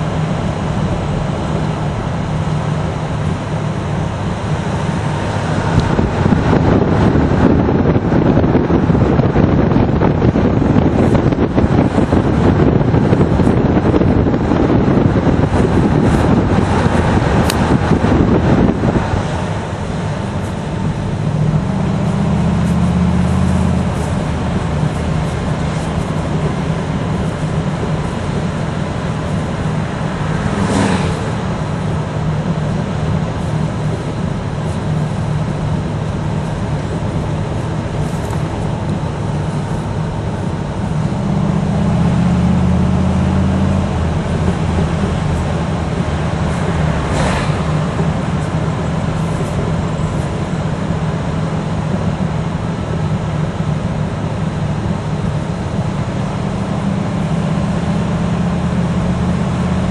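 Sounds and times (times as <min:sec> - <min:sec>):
car engine exhaust note: 0:00.0 - 0:59.9
wind rushing over microphone: 0:00.0 - 0:59.9.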